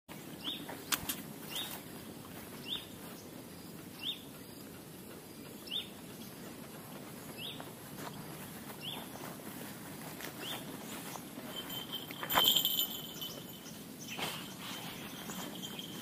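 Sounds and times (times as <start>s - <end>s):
bird chirping: 0.1s - 1.8s, 2.5s - 9.4s, 10.4s - 16.0s
low outdoor rustle: 0.1s - 16.0s.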